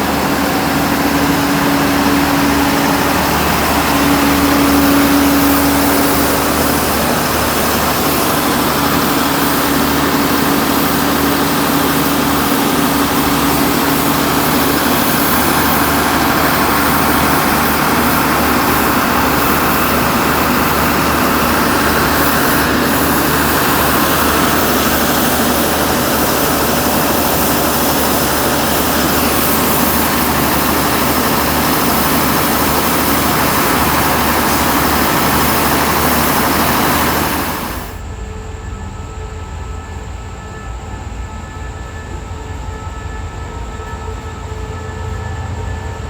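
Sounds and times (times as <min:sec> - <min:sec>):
train diesel engine running: 0:00.0 - 0:46.0.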